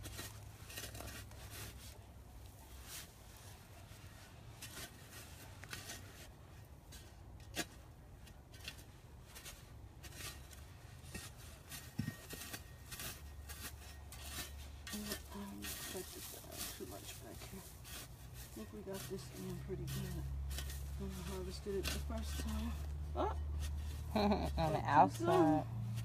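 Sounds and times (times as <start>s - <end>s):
garden fork digging soil: 0.0s - 26.0s
low steady rumble: 0.0s - 26.0s.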